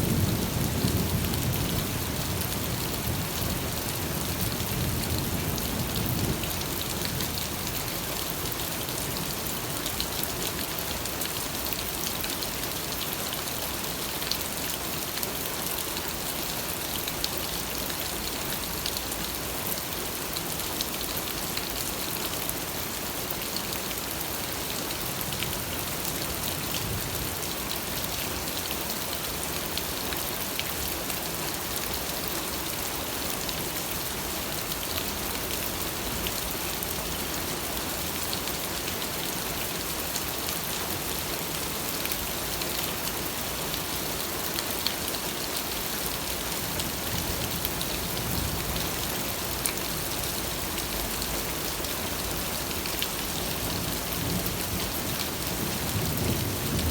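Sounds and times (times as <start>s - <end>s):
steady rain pattering: 0.0s - 56.9s.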